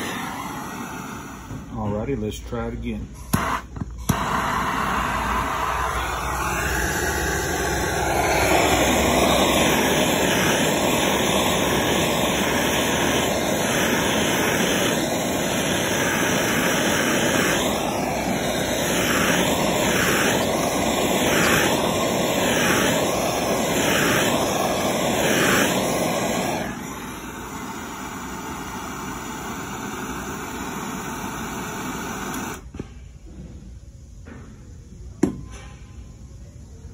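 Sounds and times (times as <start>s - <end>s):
heat gun blowing: 0.0s - 1.8s, 3.2s - 32.9s
faint hiss: 0.0s - 36.9s.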